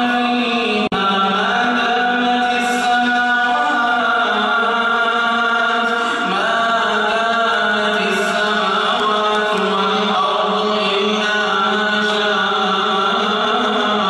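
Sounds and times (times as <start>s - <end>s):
man chanting prayer: 0.0s - 14.0s.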